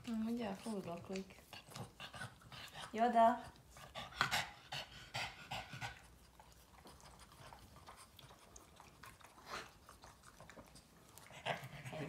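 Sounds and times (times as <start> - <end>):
dog licking: 0.0 - 12.0.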